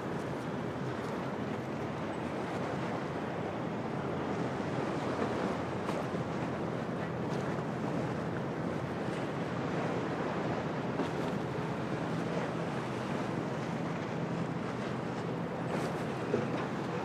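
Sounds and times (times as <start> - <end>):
surf: 0.0 - 17.0.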